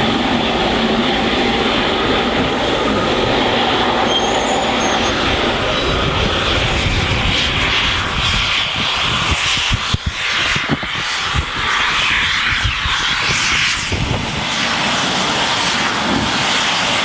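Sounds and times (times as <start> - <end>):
train passing: 0.0 - 17.0
wind buffeting microphone: 0.0 - 17.0.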